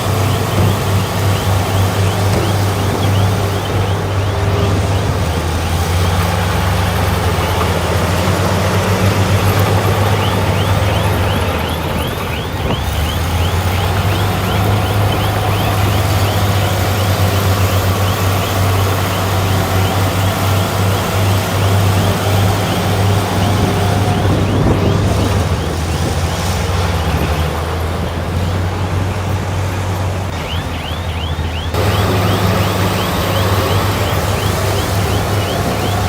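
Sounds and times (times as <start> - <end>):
diesel machinery engine drone: 0.0 - 36.0.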